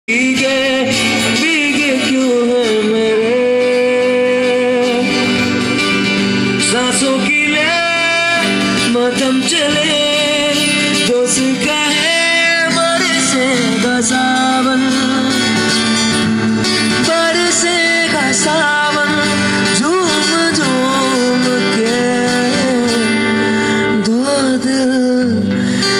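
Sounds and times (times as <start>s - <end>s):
acoustic guitar: 0.1s - 25.9s
man singing: 0.1s - 25.9s.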